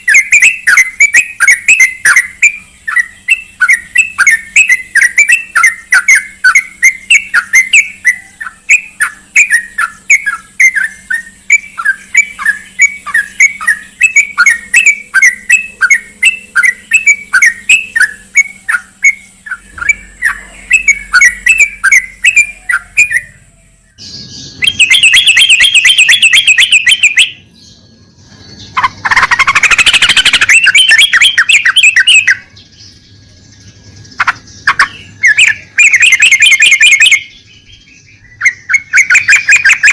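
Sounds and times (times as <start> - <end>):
bird chirping and chattering: 0.0 - 39.9.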